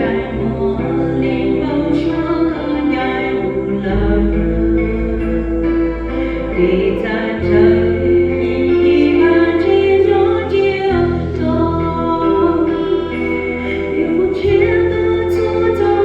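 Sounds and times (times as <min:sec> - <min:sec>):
steady bass accompaniment: 0:00.0 - 0:16.0.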